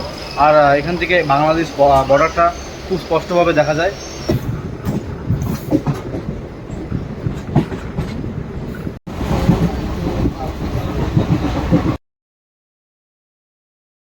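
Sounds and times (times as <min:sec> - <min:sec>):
train rumble inside coach: 0:00.0 - 0:12.0
wheels clattering over rail joints: 0:00.0 - 0:12.0.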